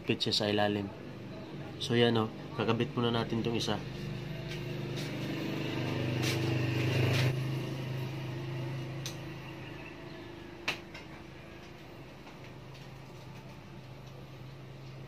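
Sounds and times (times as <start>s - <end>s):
vehicle engine hum: 1.2s - 15.0s.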